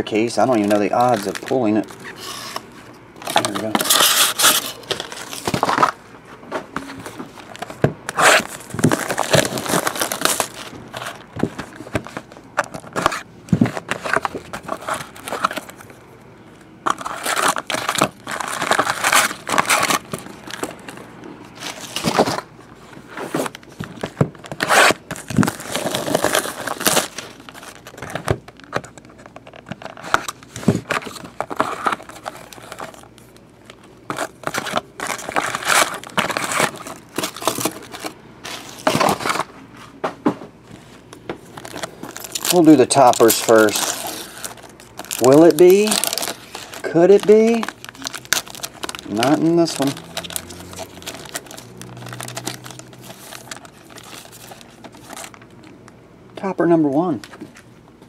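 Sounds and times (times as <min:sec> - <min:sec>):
foil packs crinkling: 0:00.0 - 0:06.0, 0:06.8 - 0:16.0, 0:16.8 - 0:39.6, 0:40.8 - 0:55.7.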